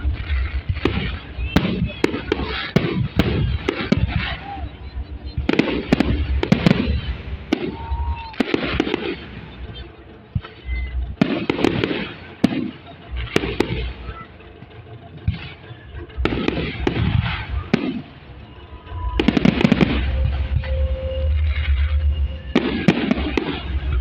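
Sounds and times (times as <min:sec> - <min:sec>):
firework bangs with echo: 0:00.0 - 0:14.2, 0:15.2 - 0:18.1, 0:18.9 - 0:21.0, 0:22.5 - 0:24.0
rapid firework crackling: 0:00.0 - 0:24.0.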